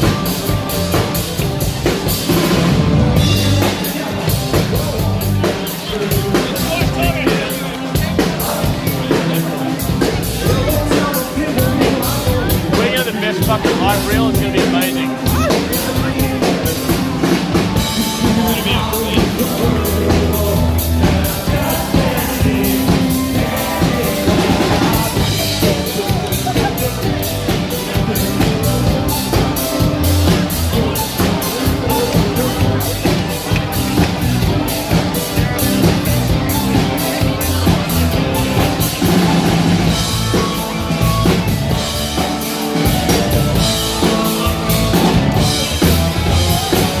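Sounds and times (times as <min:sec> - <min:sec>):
drum kit beating: 0:00.0 - 0:47.0
live rock band playing: 0:00.0 - 0:47.0.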